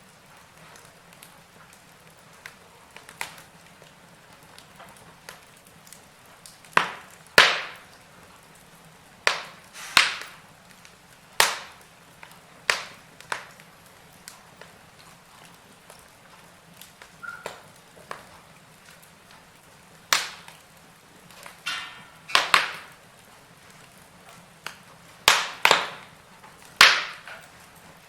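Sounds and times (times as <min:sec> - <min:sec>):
faint steady hiss: 0:00.0 - 0:28.0
fire crackling and popping: 0:00.0 - 0:28.0.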